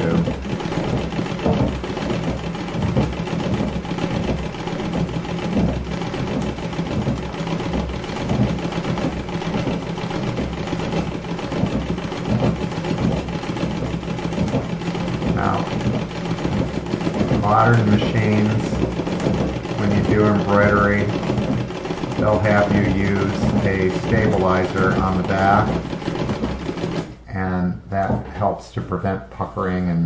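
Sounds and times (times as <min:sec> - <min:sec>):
treadle sewing machine running: 0:00.0 - 0:27.2.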